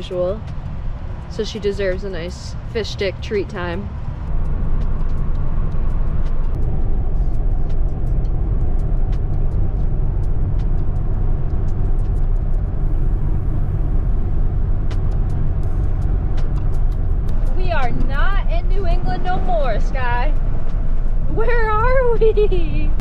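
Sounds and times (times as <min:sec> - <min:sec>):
road and engine rumble in cab: 0:00.0 - 0:23.0.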